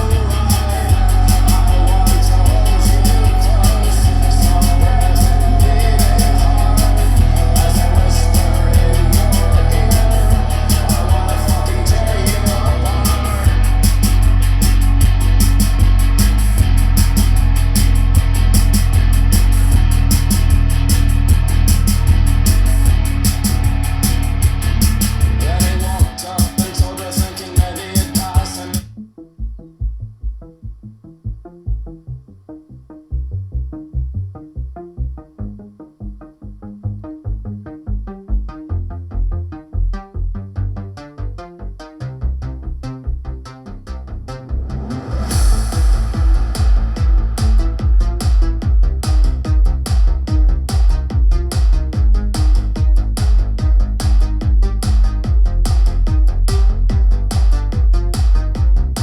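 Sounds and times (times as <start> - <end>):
rock music with heavy bass: 0.0 - 32.1, 36.8 - 59.0
low bass thumps: 0.0 - 32.3, 42.2 - 59.0.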